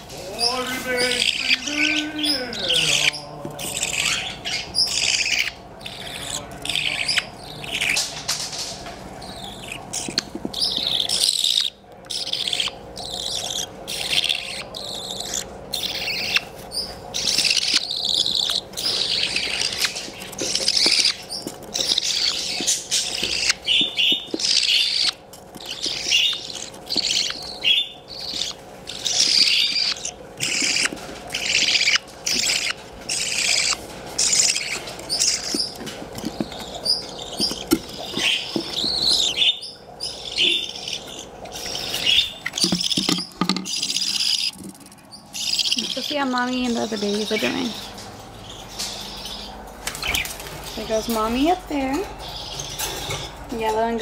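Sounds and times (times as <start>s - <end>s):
budgerigar chicks chirping: 0.0s - 54.0s.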